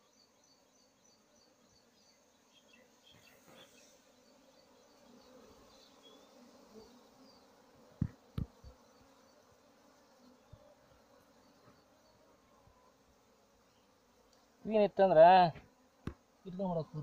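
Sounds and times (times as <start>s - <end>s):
bees buzzing: 0.1s - 17.0s.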